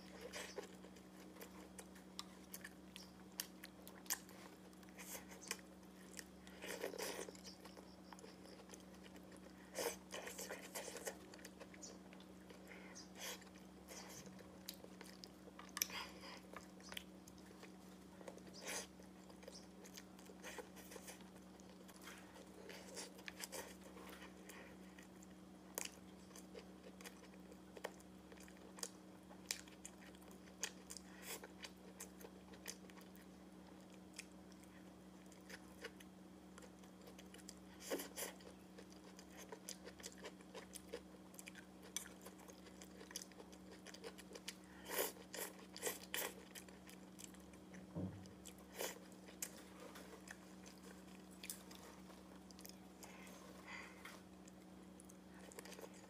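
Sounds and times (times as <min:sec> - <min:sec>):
faint low hum: 0:00.0 - 0:56.0
chewing with wet mouth clicks: 0:00.1 - 0:53.2, 0:54.0 - 0:56.0.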